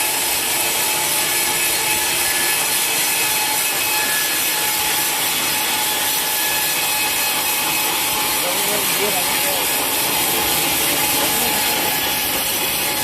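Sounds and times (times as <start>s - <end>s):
saw cutting through log: 0.0s - 13.0s.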